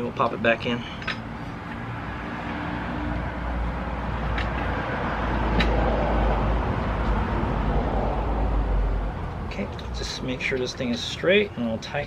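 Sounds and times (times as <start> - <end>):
passing motor vehicle rumble: 0.0 - 10.8.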